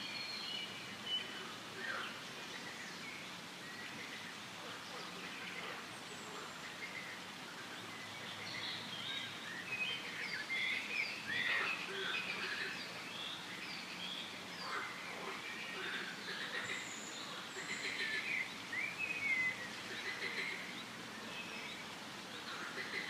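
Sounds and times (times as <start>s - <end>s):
forest background hiss: 0.0s - 23.0s
wild birds chirping and calling: 0.0s - 23.0s.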